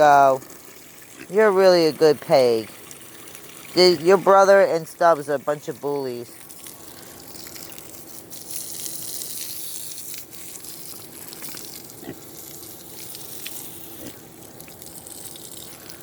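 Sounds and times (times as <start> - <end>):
water spraying from a hose: 0.0 - 16.0.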